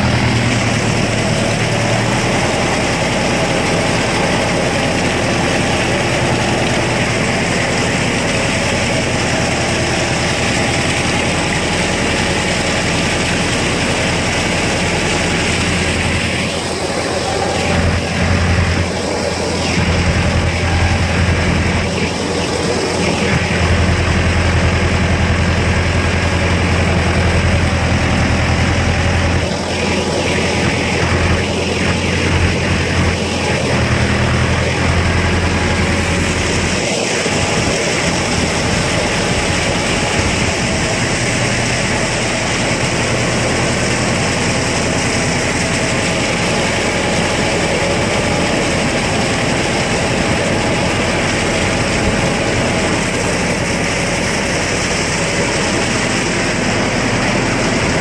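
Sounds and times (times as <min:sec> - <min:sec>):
rotavator churning mud: 0:00.0 - 0:58.0
tractor engine under load: 0:00.0 - 0:58.0.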